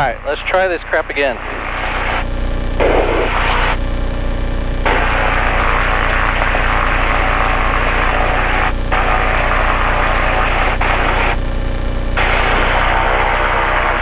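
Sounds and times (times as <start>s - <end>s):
radio hiss: 0.0s - 14.0s.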